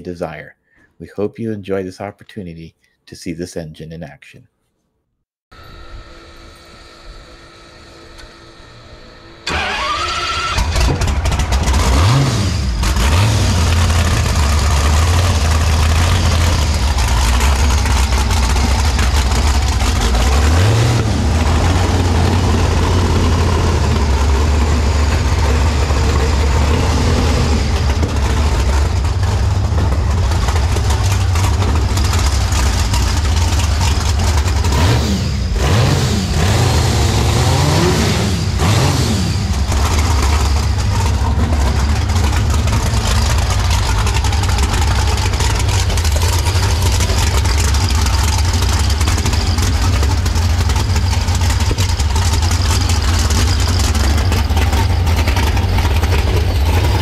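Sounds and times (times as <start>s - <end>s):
engine starting and revving: 9.4s - 57.0s.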